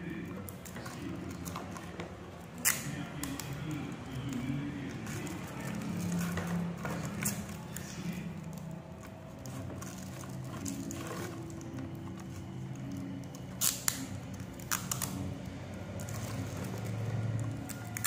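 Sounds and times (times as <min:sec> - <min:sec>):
low background murmur: 0:00.0 - 0:18.0.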